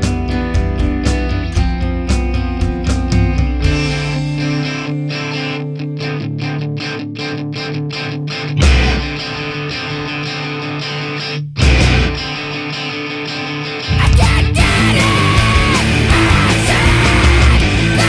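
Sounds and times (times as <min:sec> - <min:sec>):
electric guitar sustained chords: 0:00.0 - 0:18.0
rock band with distorted guitars: 0:00.0 - 0:18.0.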